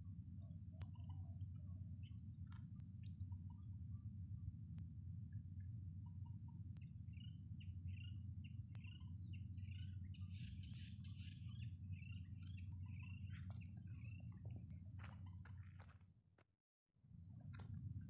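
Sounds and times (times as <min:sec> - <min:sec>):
small birds chirping: 0:00.1 - 0:04.1, 0:05.3 - 0:16.0.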